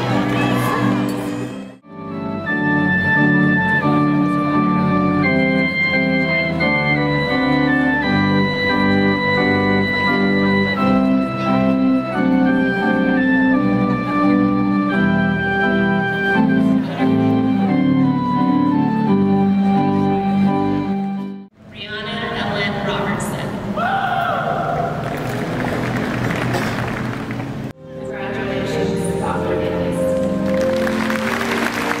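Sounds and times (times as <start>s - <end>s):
organ music: 0.0s - 23.4s, 25.0s - 32.0s.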